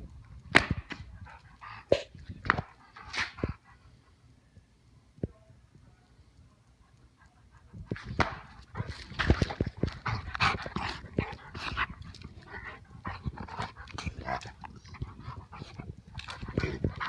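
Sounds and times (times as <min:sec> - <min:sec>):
dog breathing and vocalizing: 0:01.0 - 0:04.3, 0:06.6 - 0:17.0.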